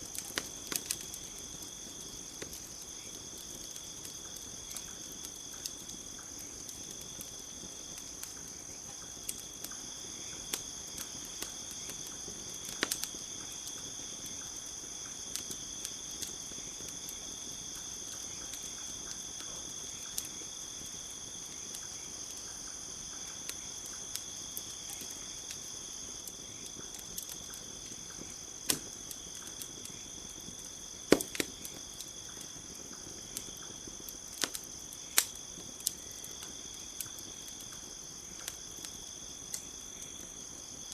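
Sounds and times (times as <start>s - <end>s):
burning wood popping: 0.0s - 40.9s
campfire crackling: 0.0s - 40.9s
crickets chirring: 0.0s - 40.9s.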